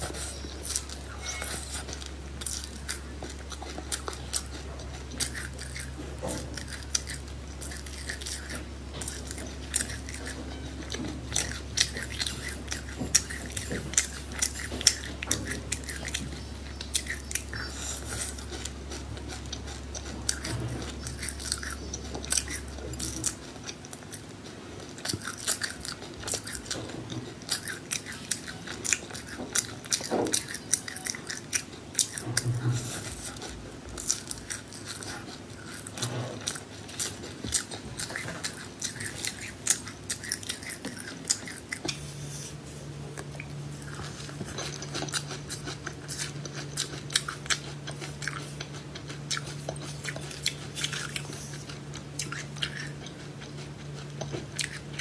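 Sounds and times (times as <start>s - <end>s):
person chewing crunchy seeds: 0.0s - 55.0s.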